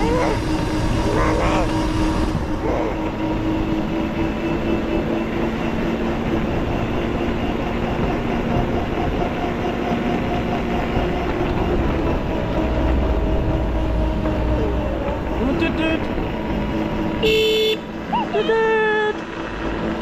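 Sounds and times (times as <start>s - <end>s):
quad bike engine hum: 0.0s - 20.0s
wind and road noise: 0.0s - 20.0s.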